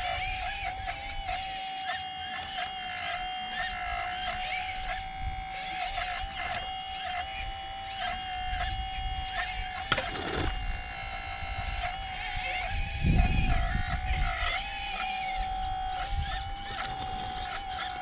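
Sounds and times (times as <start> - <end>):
hydraulic pump motor whining: 0.0 - 18.0.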